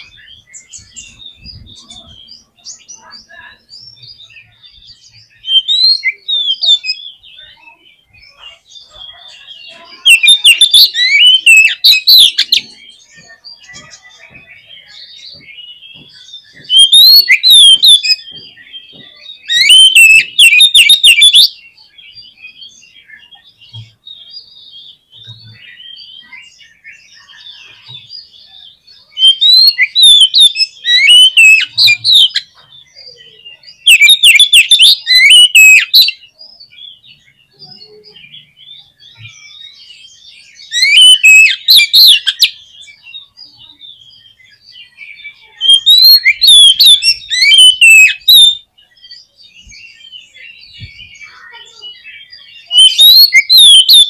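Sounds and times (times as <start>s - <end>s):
magpie-robin singing: 0.0s - 54.0s
soft bird twittering: 0.0s - 54.0s.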